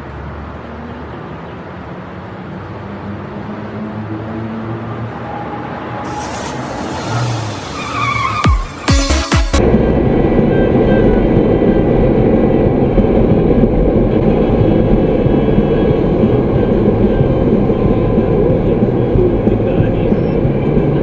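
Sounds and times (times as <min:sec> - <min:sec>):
vehicle rumbling in motion: 0:00.0 - 0:21.0.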